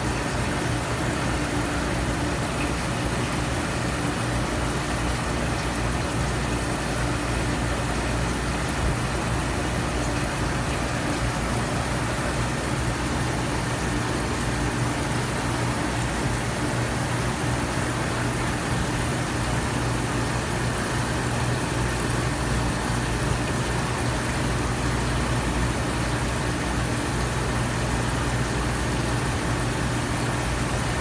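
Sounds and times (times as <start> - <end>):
aquarium pump hum: 0.0 - 31.0
circulating water hiss: 0.0 - 31.0.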